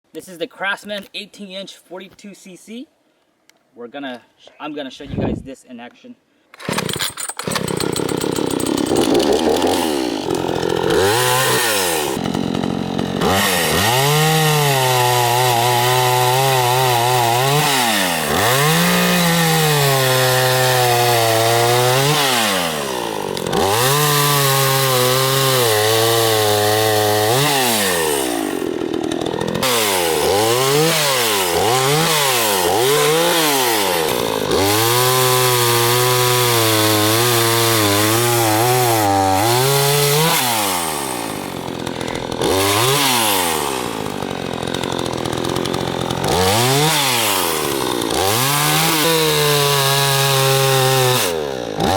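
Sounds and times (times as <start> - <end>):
chainsaw cutting wood: 6.6 - 51.9.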